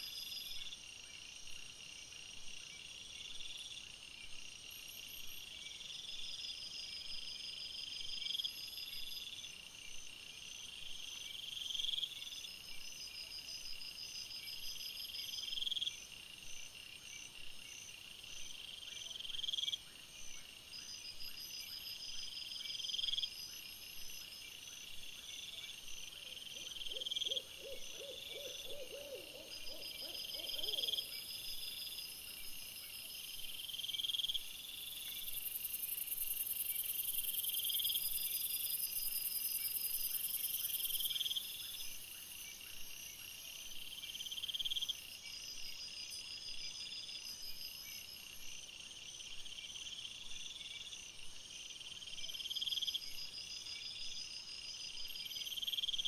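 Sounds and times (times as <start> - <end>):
night insects chirping: 0.0 - 56.0.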